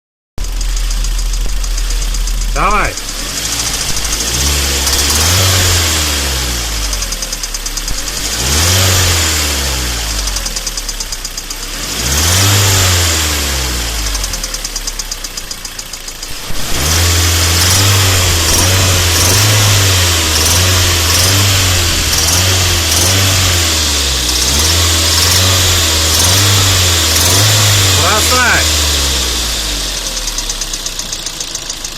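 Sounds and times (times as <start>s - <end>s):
car engine revving: 0.4s - 31.9s
rapid engine knock ticking: 0.4s - 31.9s.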